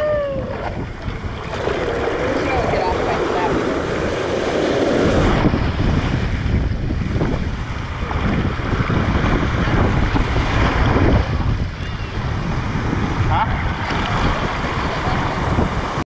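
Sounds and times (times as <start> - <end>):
microphone buffeting rumble: 0.0 - 16.0
surf rushing water: 0.0 - 16.0.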